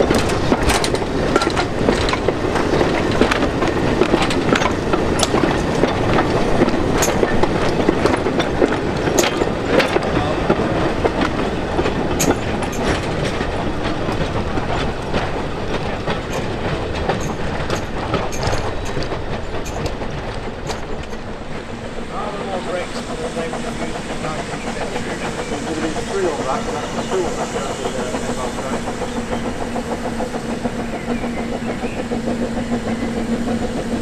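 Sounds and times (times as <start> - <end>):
wagon wheels clattering on rails: 0.0 - 34.0.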